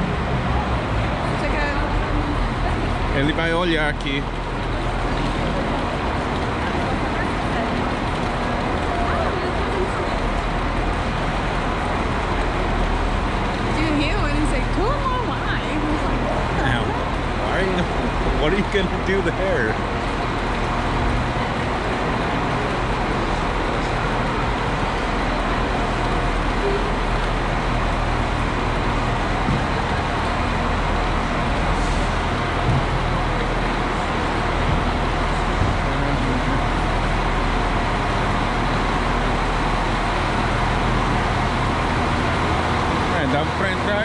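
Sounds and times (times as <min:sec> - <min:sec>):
diesel trains idling: 0:00.0 - 0:44.0.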